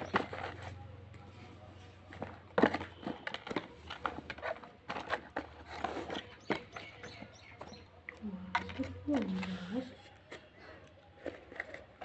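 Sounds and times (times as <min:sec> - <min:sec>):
cherries packed into cardboard box: 0:00.0 - 0:12.0.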